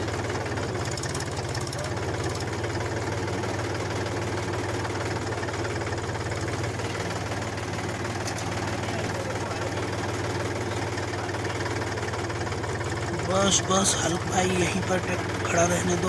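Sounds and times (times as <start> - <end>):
tractor engine chugging: 0.0 - 16.0.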